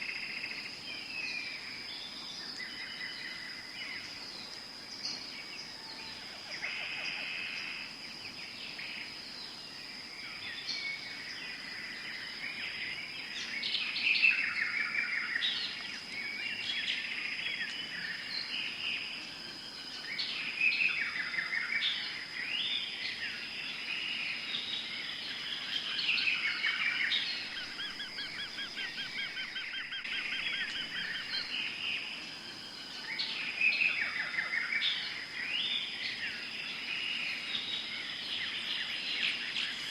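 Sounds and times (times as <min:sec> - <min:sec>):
birds calling and chirping: 0:00.0 - 0:39.9.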